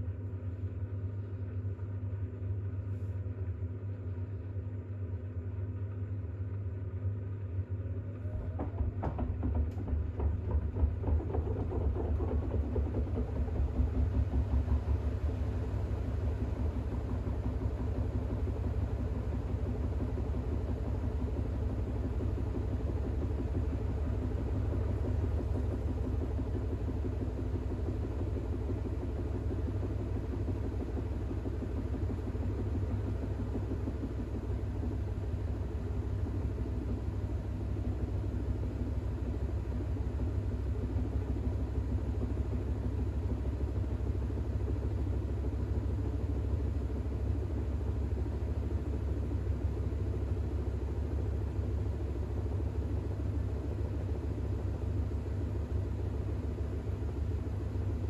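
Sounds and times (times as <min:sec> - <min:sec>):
washing machine spinning: 0:08.2 - 0:58.0.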